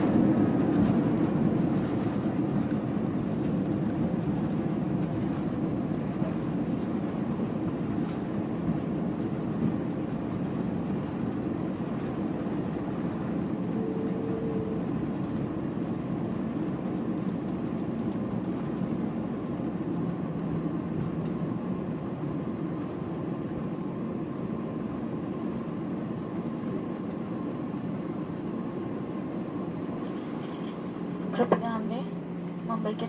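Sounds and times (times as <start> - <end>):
airliner cabin low rumble: 0.0 - 33.0.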